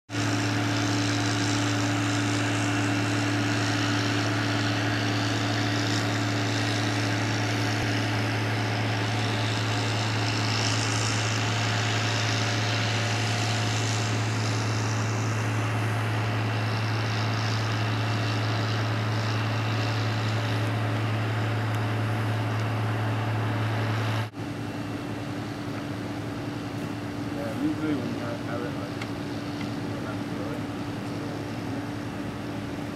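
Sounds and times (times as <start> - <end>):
mechanical drone with low hum: 0.1 - 32.9.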